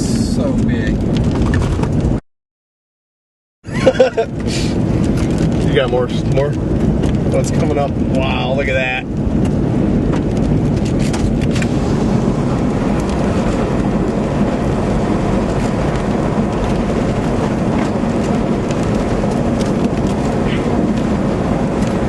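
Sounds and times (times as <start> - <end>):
car road and wind rumble: 0.0 - 2.2, 3.6 - 22.0.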